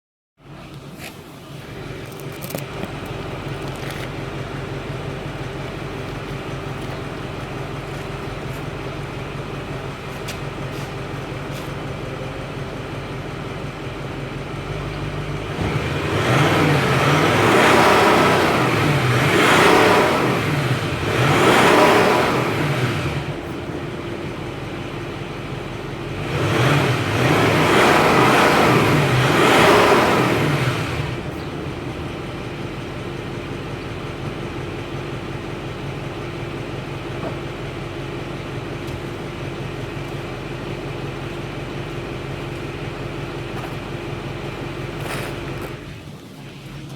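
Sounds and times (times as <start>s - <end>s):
diesel engine idling and revving: 0.4s - 46.9s.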